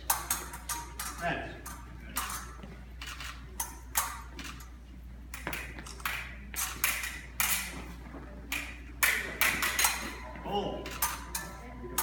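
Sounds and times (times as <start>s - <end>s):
fencing blades clinking: 0.0s - 12.0s.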